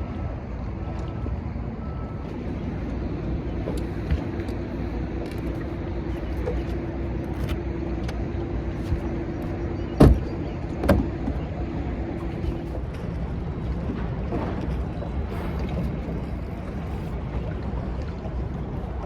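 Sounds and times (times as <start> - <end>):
boat motor humming: 0.0 - 19.0
water rumble: 0.0 - 19.0
wind: 0.0 - 19.0.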